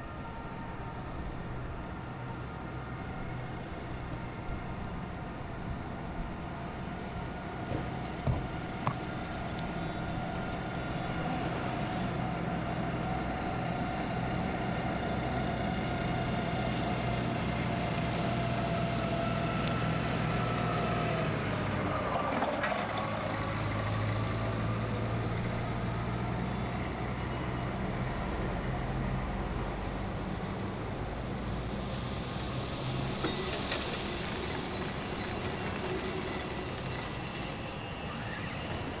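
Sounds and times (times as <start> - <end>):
rail vehicle hum and whine: 0.0 - 39.0.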